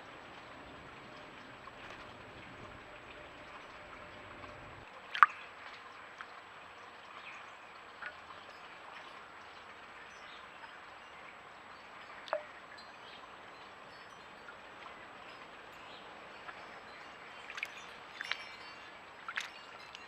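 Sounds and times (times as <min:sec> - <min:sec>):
faint steady hiss: 0:00.0 - 0:20.0
water plinks in a bird bath: 0:00.0 - 0:20.0.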